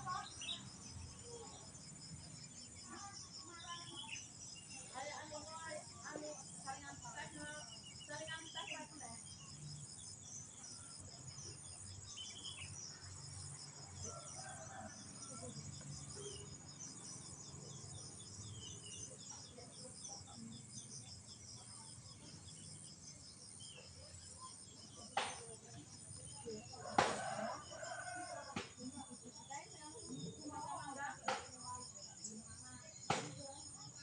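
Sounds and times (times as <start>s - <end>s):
crickets and insects chirring: 0.0s - 34.0s.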